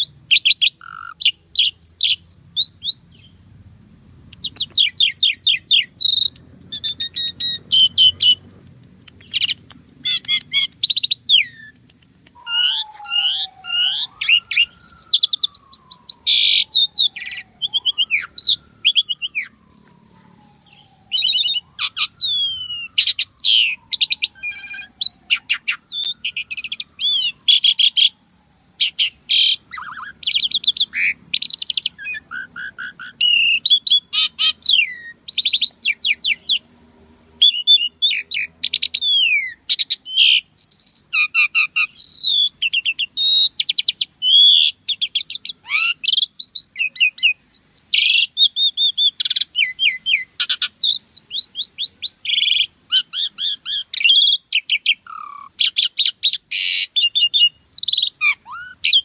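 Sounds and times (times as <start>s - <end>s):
starling singing whistles and chatter: 0.0s - 3.4s, 4.3s - 59.0s.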